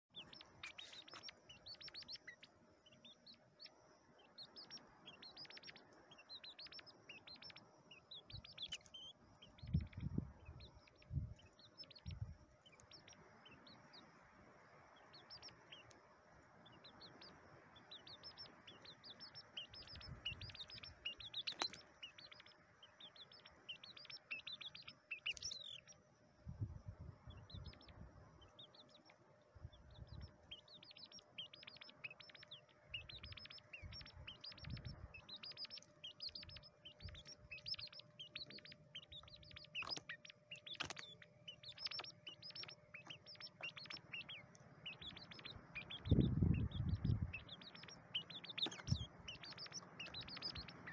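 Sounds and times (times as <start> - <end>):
partridge calling: 0.0 - 14.2, 14.8 - 26.0, 27.3 - 50.9.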